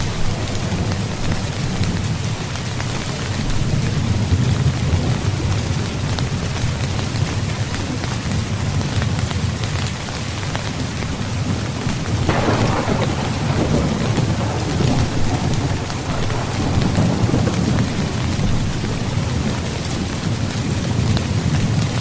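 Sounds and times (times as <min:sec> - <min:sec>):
thunder rumbling: 0:00.0 - 0:09.8, 0:10.6 - 0:22.0
rain falling on a tent: 0:00.0 - 0:22.0.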